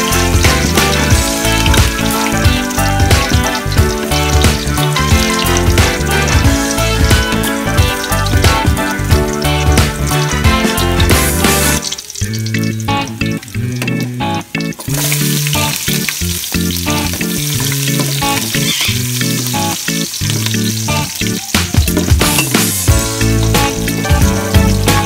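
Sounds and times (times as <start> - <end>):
background music: 0.0 - 25.0
onion sizzling in oil: 0.0 - 25.0.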